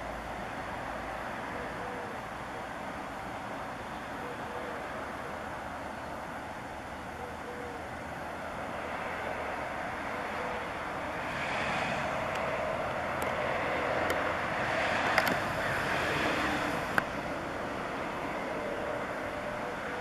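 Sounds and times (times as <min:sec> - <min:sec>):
steady rushing background noise: 0:00.0 - 0:20.0.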